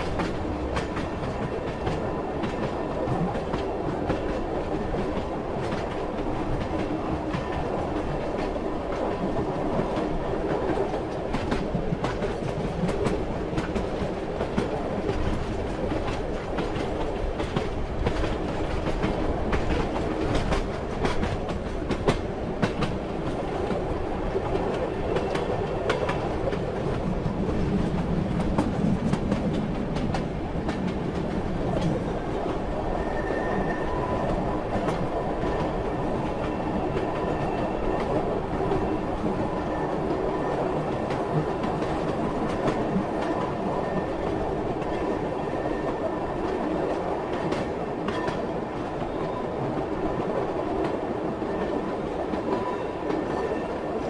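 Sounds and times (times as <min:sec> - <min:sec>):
train carriage rumbling: 0:00.0 - 0:54.0.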